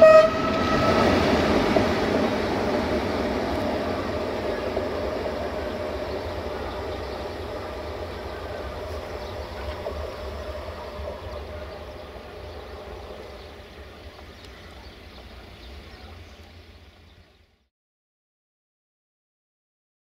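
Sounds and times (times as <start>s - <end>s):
train rumbling and humming: 0.0s - 17.6s.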